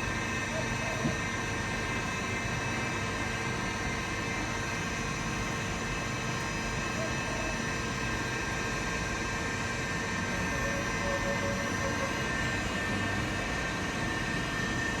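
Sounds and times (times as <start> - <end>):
milling machine running with whine: 0.0 - 15.0.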